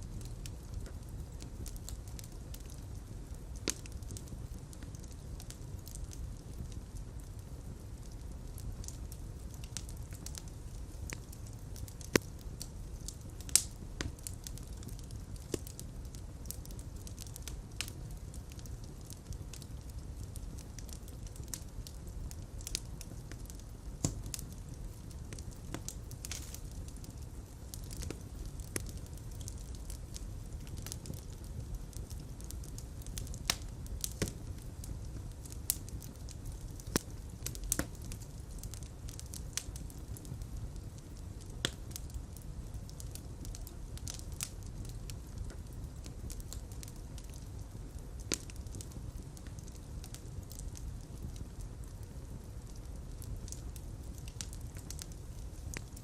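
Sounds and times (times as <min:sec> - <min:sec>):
fire crackling with sharp pops: 0:00.0 - 0:56.0
low rumble of flames: 0:00.0 - 0:56.0.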